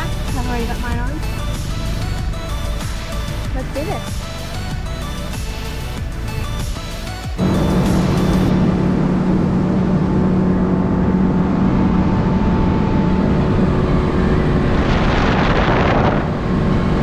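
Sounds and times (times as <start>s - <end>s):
outboard motor running: 0.0s - 17.0s
wind noise on microphone: 0.0s - 17.0s.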